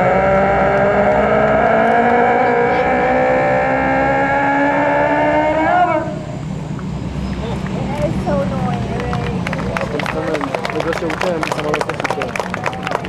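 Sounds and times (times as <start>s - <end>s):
turboprop propeller and turbine whine: 0.0s - 13.0s.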